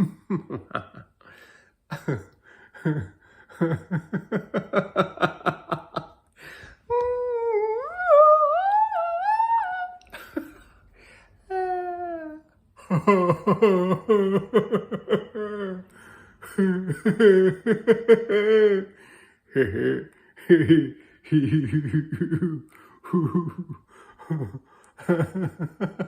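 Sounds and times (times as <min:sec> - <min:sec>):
person laughing: 0:00.0 - 0:01.3, 0:01.9 - 0:08.0, 0:09.9 - 0:10.8, 0:11.5 - 0:19.0, 0:19.6 - 0:26.0.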